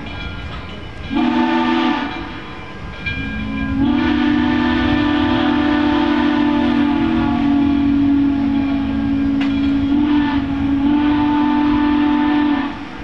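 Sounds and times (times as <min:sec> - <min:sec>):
steam locomotive whistle: 0:01.1 - 0:02.6, 0:03.2 - 0:13.0.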